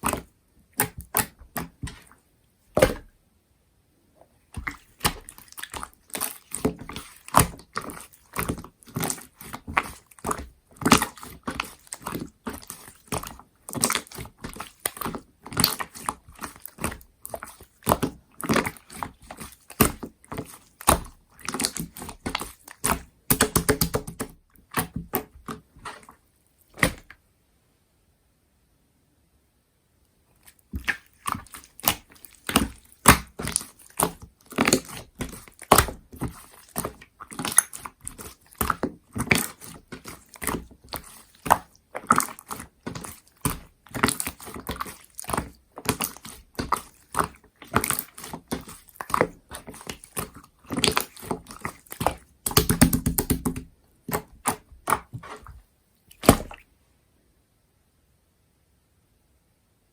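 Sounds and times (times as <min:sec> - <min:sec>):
slime squished by hand: 0:00.0 - 0:03.2, 0:04.5 - 0:26.2, 0:26.8 - 0:27.1, 0:30.4 - 0:56.7.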